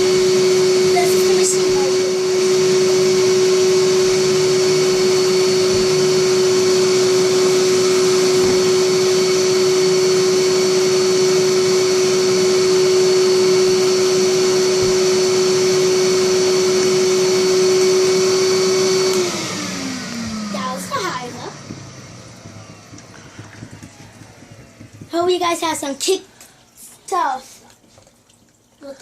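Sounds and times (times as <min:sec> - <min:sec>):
vacuum cleaner running: 0:00.0 - 0:26.2.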